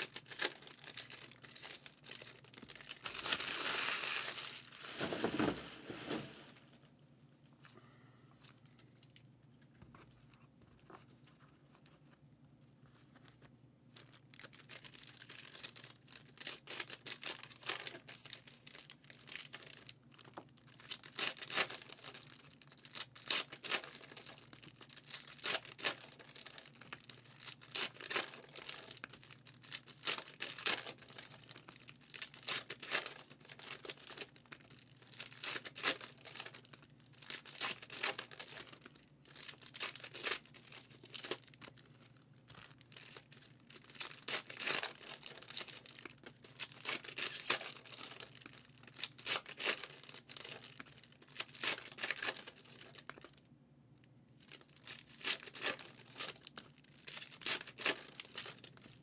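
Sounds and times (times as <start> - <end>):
foil wrappers tearing and crinkling: 0.0 - 6.8, 14.0 - 53.4, 54.5 - 59.0.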